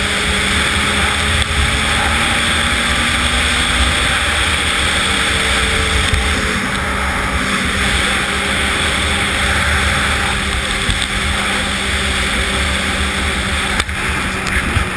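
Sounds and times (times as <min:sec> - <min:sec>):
snowmobile engine running: 0:00.0 - 0:14.9.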